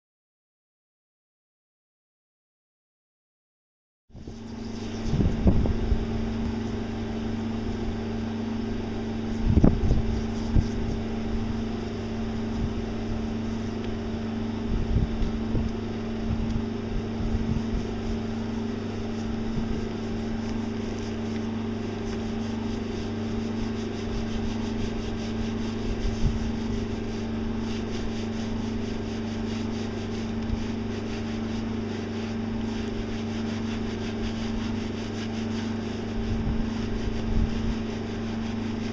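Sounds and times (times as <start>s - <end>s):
brush bristles rubbing on rim: 4.2s - 38.9s
pressure washer humming: 4.2s - 38.9s.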